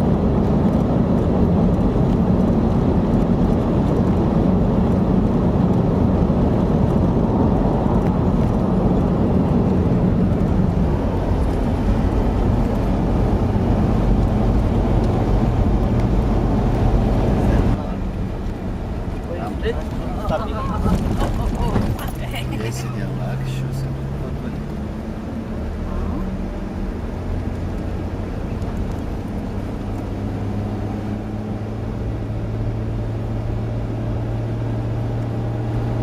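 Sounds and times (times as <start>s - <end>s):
off-road vehicle engine driving: 0.0s - 36.0s.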